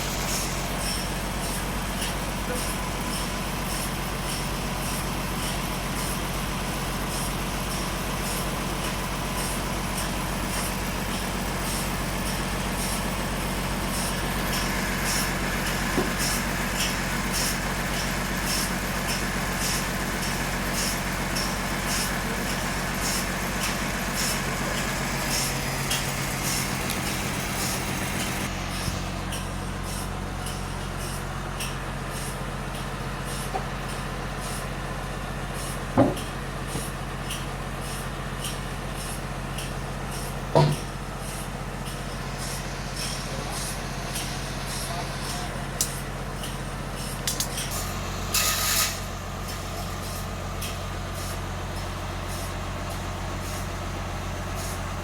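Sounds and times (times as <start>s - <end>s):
sawmill engine drone: 0.0s - 55.0s.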